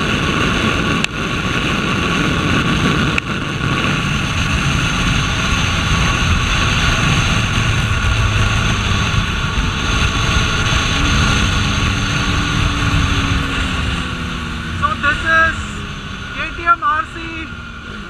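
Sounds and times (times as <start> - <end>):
motorcycle engine running: 0.0 - 18.0
wind rush on microphone: 0.0 - 18.0.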